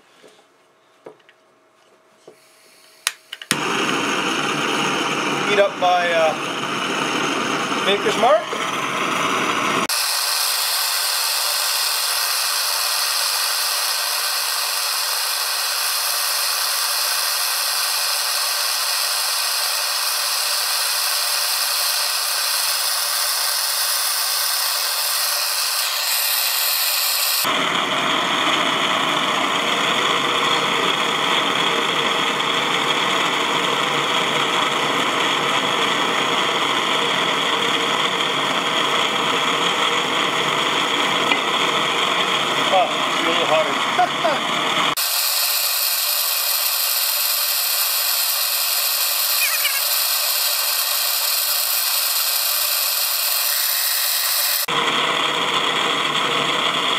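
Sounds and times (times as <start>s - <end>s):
butane torch hissing: 2.3s - 56.8s.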